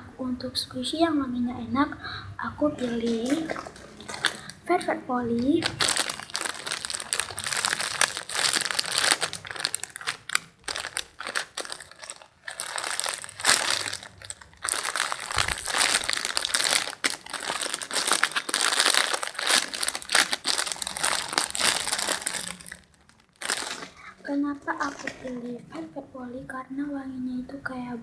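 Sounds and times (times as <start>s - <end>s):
plastic packaging crinkling: 2.8s - 26.0s.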